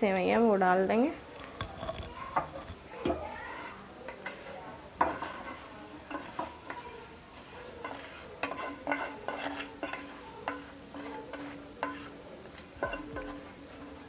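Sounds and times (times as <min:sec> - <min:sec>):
metal spoon scraping a pan: 0:00.8 - 0:14.0.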